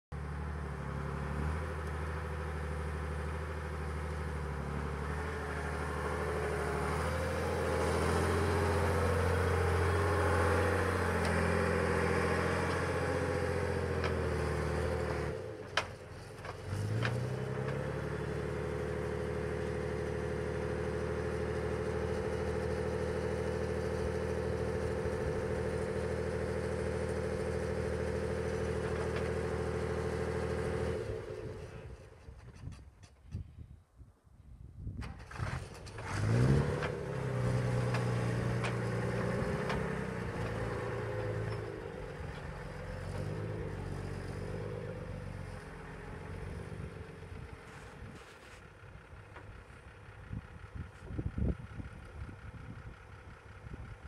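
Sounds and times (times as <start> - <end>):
diesel engine running: 0.1 - 32.5, 35.2 - 54.0.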